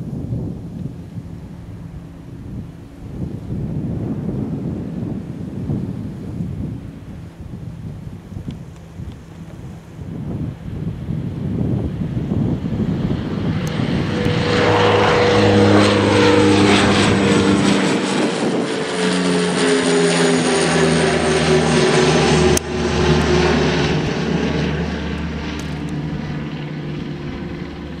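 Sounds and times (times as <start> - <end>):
propeller plane droning overhead: 0.0 - 28.0.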